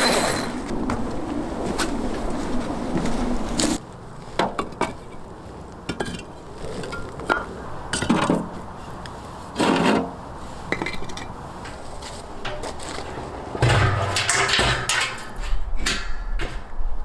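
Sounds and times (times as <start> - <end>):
gear scraping and rustling: 0.0 - 17.0.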